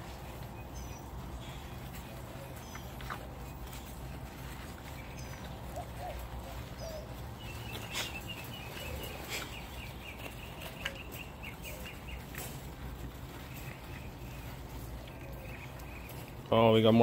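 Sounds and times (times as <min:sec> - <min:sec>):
bird chirping: 0:00.0 - 0:17.0
puppies playing and scuffling: 0:00.0 - 0:17.0.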